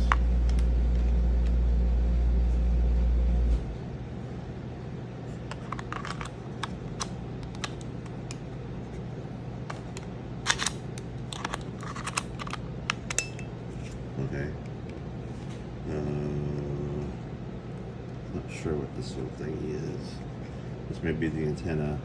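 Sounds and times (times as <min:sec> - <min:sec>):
loud low hum: 0:00.0 - 0:22.0.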